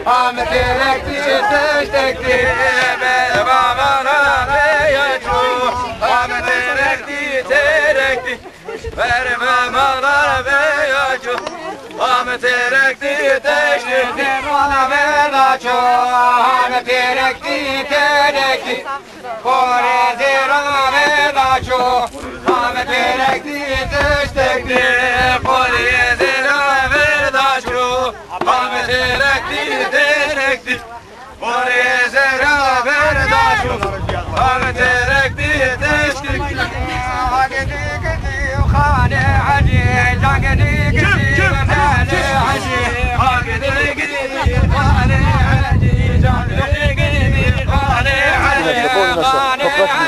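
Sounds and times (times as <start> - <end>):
men singing a folk song: 0.0 - 50.0.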